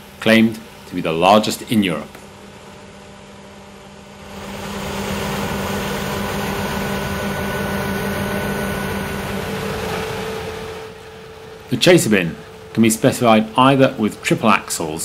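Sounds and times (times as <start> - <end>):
combine harvester engine drone: 0.0 - 15.0
faint high whine: 0.0 - 15.0.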